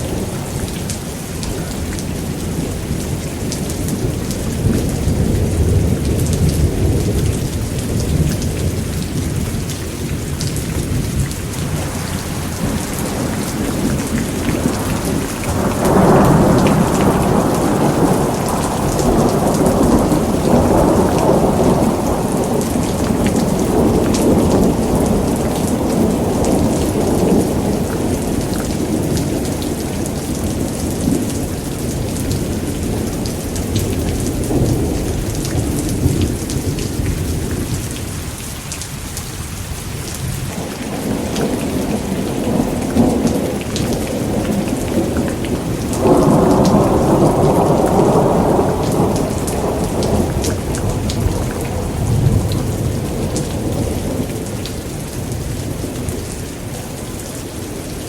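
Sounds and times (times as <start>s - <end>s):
rolling thunder: 0.0s - 38.6s, 40.0s - 57.8s
heavy rain: 0.0s - 58.0s.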